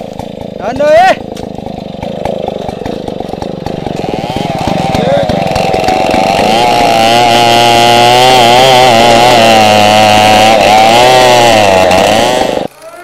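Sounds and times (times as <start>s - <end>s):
chainsaw cutting wood: 0.0s - 12.8s.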